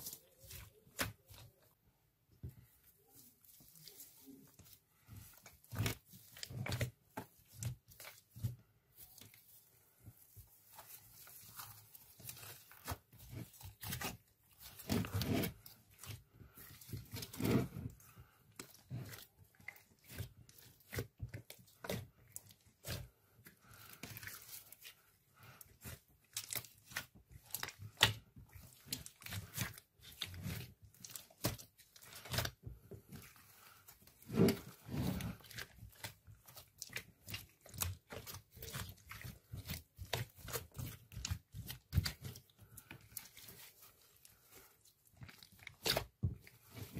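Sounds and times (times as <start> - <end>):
slime squelching and crackling: 0.0 - 46.9.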